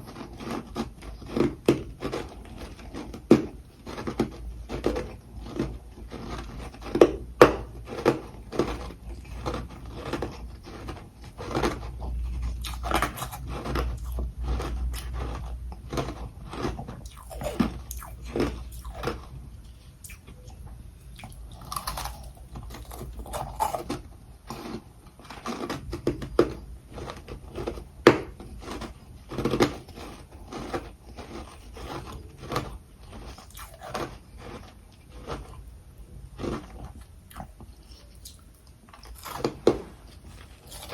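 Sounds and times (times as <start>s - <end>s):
ice being crunched and chewed: 0.0s - 40.9s.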